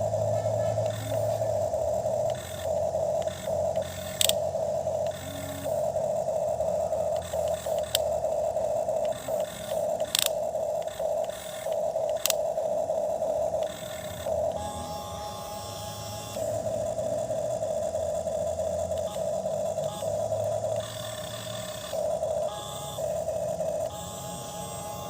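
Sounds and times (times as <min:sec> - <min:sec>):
toy electric motor whining: 0:00.0 - 0:25.0
sharp clicks: 0:00.7 - 0:25.0.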